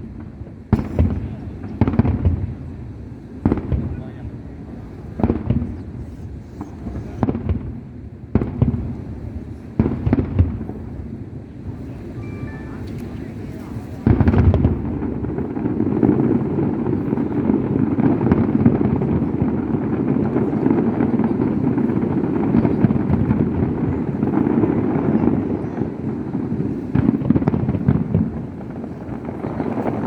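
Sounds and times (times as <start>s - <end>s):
fireworks crackling and rumbling: 0.0s - 30.0s
sharp firework bangs: 0.0s - 30.0s.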